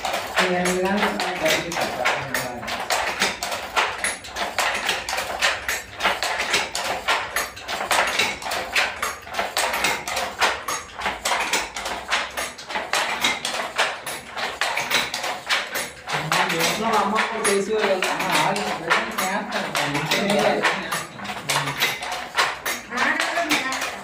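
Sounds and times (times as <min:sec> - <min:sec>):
wooden handloom clattering: 0:00.0 - 0:24.0.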